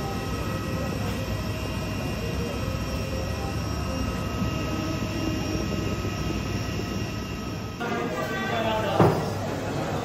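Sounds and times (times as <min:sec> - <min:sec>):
high jet engine whine: 0:00.0 - 0:10.0.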